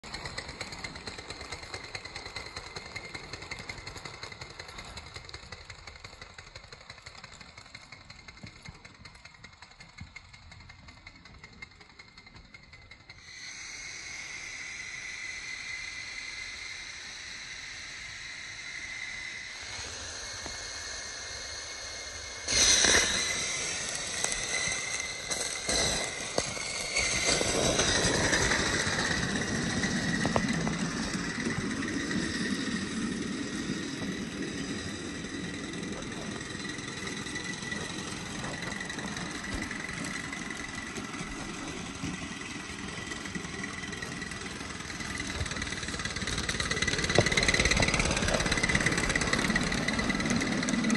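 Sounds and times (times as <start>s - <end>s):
model train rolling on rails: 0.0s - 50.9s
steam hissing: 0.0s - 50.9s.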